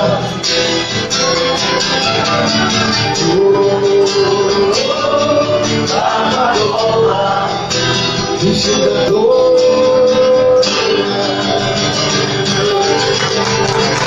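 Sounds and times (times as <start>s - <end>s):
slow melody line: 0.0s - 14.0s
strummed guitar: 0.0s - 14.0s.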